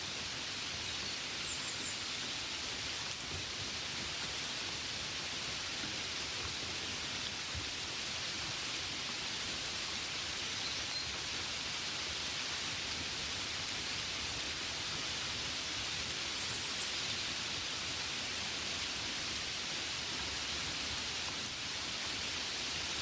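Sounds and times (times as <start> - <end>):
gentle rain on a window: 0.0 - 23.0.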